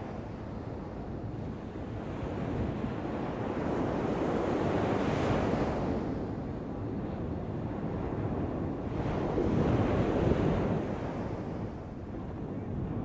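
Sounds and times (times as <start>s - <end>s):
low rumble of surf: 0.0s - 13.0s.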